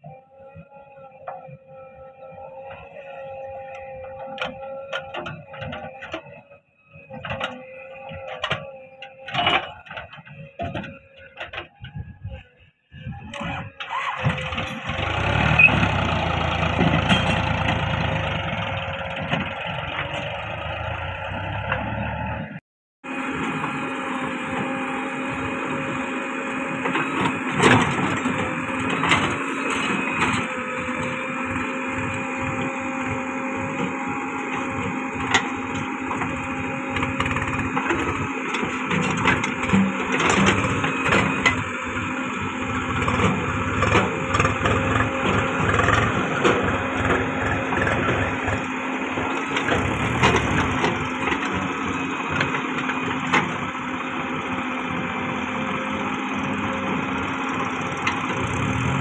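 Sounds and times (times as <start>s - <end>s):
backhoe loader diesel engine: 0.0s - 59.0s
tractor engine running: 1.4s - 59.0s.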